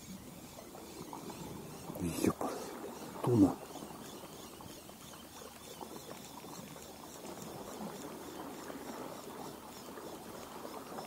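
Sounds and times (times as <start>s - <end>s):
sea water lapping and splashing: 0.0s - 11.0s.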